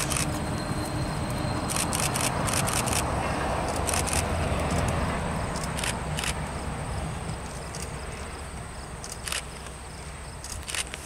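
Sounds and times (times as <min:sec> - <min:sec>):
diesel freight train rumble: 0:00.0 - 0:11.0.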